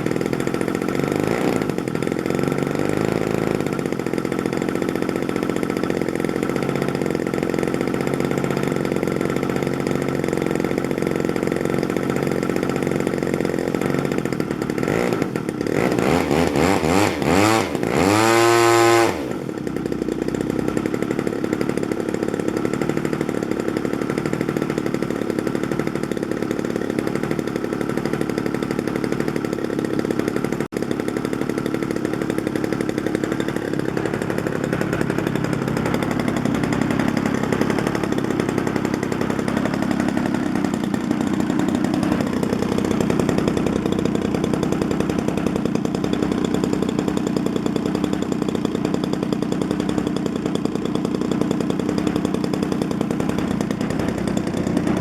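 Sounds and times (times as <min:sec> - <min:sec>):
model aircraft engine running: 0:00.0 - 0:55.0.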